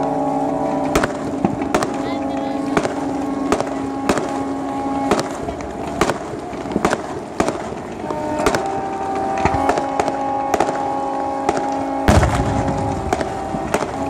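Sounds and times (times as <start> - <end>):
crackling hiss: 0.0 - 14.0
fireworks bangs: 0.0 - 14.0.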